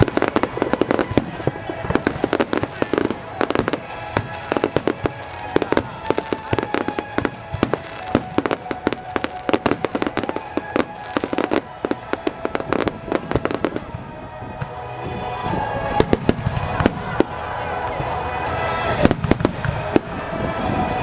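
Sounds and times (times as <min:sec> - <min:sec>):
firework bangs and crackles: 0:00.0 - 0:21.0.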